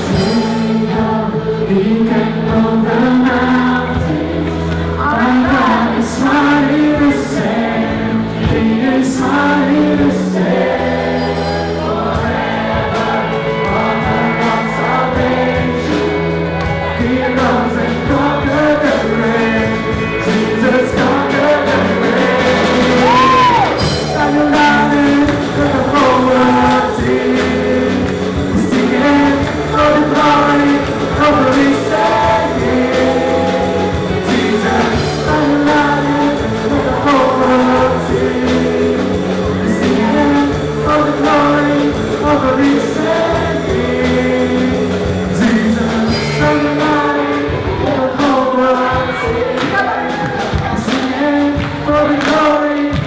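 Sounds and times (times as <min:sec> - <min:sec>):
bass: 0:00.0 - 0:53.0
man singing into a microphone: 0:00.0 - 0:53.0
steady drum beat: 0:00.0 - 0:53.0
voices singing along: 0:00.0 - 0:53.0.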